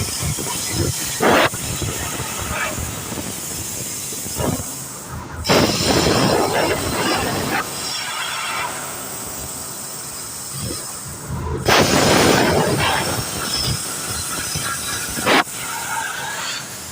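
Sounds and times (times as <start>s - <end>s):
laser cutting machine hiss: 0.0s - 16.9s
loud rush of hiss: 0.0s - 16.9s.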